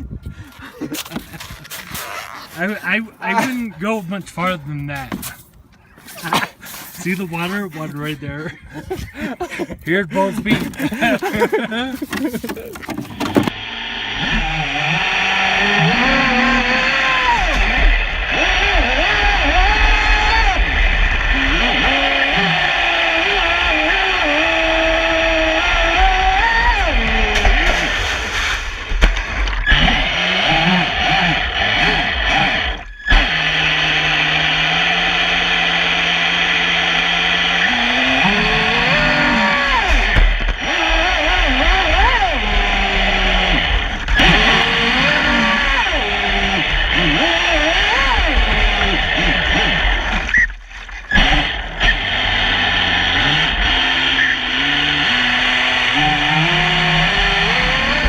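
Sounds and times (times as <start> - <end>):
electric motor whining: 8.8 - 28.4, 29.4 - 58.0.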